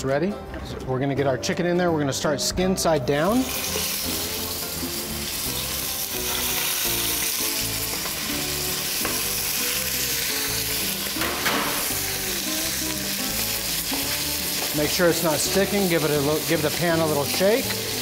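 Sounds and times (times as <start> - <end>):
chicken sizzling in hot oil: 3.3 - 18.0.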